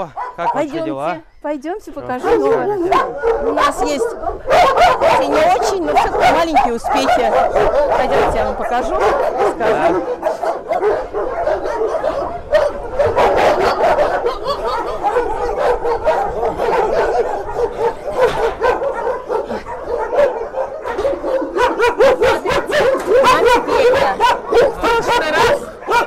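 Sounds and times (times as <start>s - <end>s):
dogs barking and yipping: 0.0s - 1.2s, 2.0s - 26.0s.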